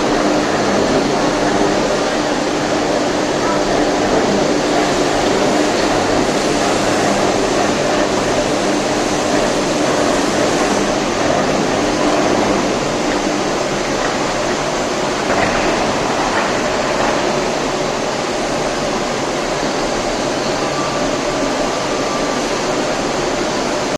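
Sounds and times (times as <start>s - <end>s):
arc furnace roaring: 0.0s - 23.9s.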